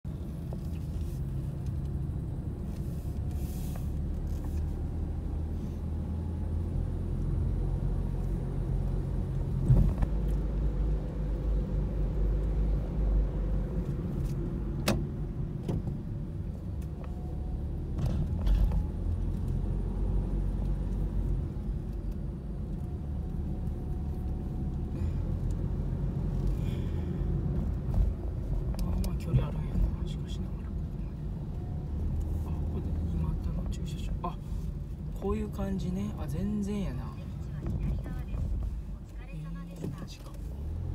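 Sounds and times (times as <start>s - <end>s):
engine and road noise: 0.0s - 40.9s.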